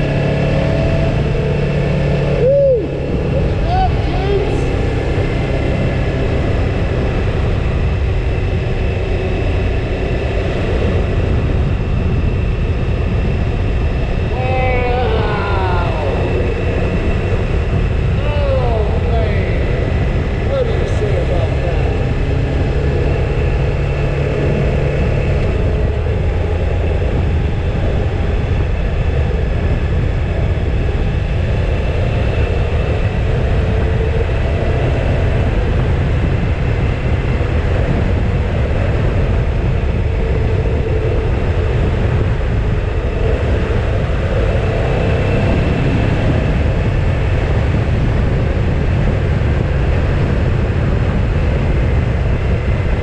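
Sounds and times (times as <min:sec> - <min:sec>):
motorcycle engine drone: 0:00.0 - 0:53.0
wind rushing over microphone: 0:00.0 - 0:53.0.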